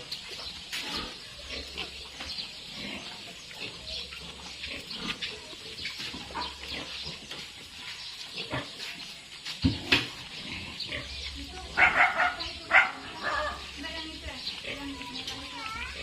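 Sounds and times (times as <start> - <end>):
pigs grunting and squealing: 0.0 - 16.0.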